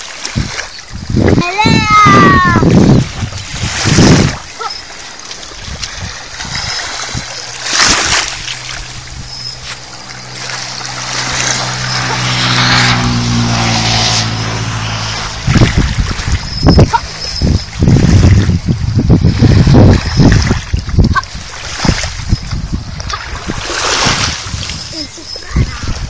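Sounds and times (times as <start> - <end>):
low engine hum: 0.9 - 26.0
fish splashing in shallows: 2.7 - 26.0.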